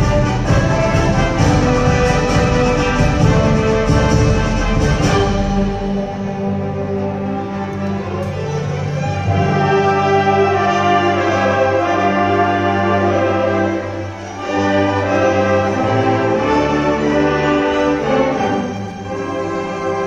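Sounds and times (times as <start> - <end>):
orchestra playing sustained chords: 0.0 - 20.0.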